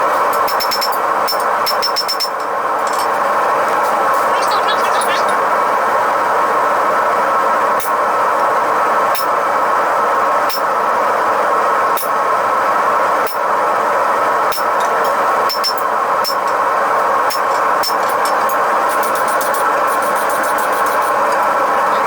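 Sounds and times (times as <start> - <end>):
forge burner roar: 0.0 - 22.0.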